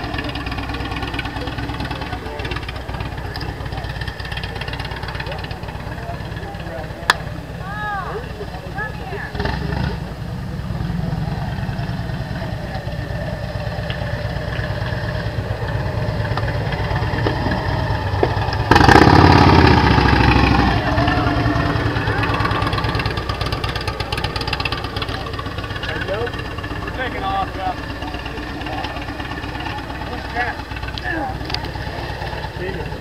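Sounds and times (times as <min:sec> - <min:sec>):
motorcycle engine running slowly: 0:00.0 - 0:33.0.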